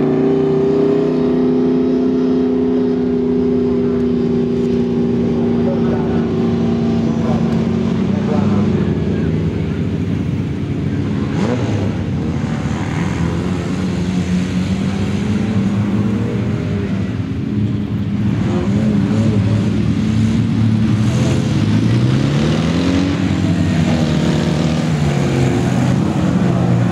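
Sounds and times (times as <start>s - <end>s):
race car engines revving: 0.0s - 26.9s.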